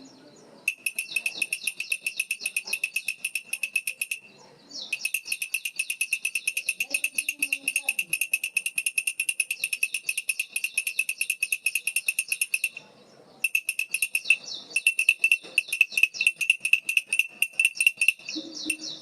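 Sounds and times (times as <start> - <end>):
baby rattle jingling: 0.7 - 4.3, 4.9 - 12.8, 13.4 - 19.0.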